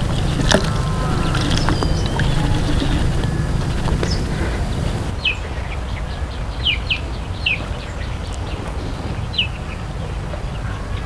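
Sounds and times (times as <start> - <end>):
falling bird chirps: 0.0 - 11.0
low background rumble: 0.0 - 11.0.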